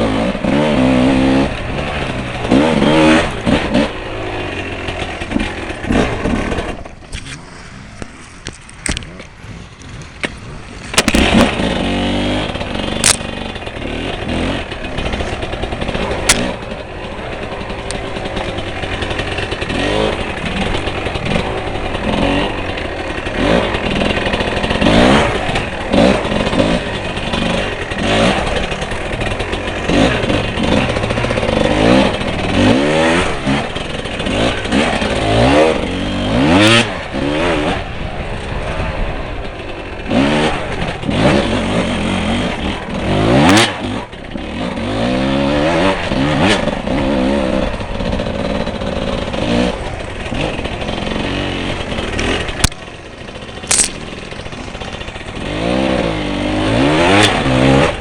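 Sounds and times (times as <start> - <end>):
off-road motorcycle engine revving: 0.0 - 58.0.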